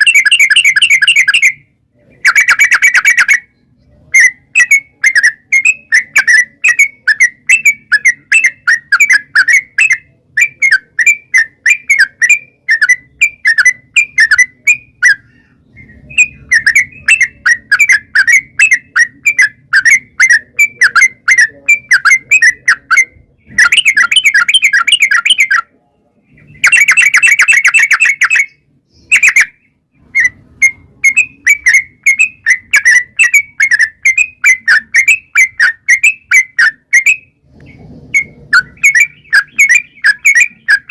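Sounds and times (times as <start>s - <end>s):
bulbul singing chattering notes: 0.0s - 25.7s, 26.4s - 37.4s, 38.2s - 40.9s.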